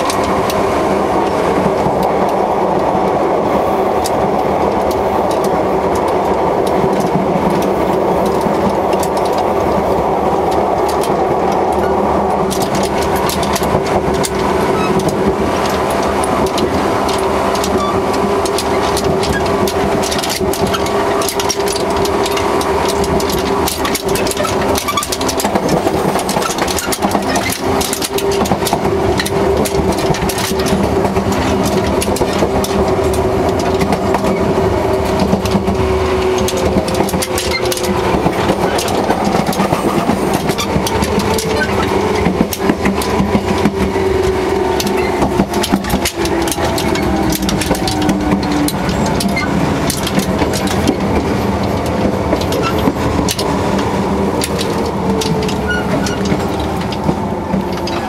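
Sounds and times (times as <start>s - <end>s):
electric train humming: 0.0s - 58.0s
coupler clicking and rattling: 4.0s - 58.0s.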